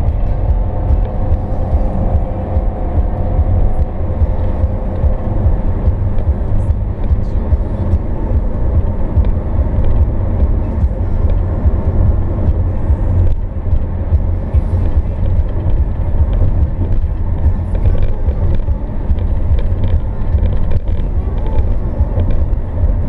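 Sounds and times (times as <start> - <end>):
road and engine rumble inside car: 0.0 - 23.0.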